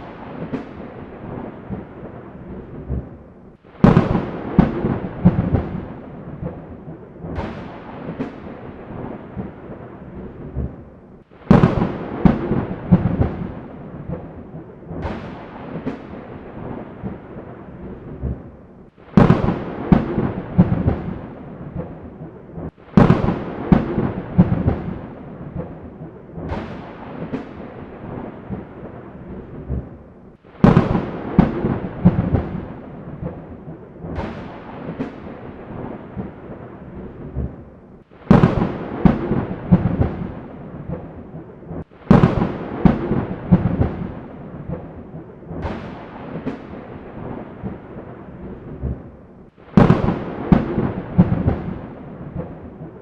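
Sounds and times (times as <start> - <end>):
thunderclaps with rolling rumble: 0.0 - 53.0.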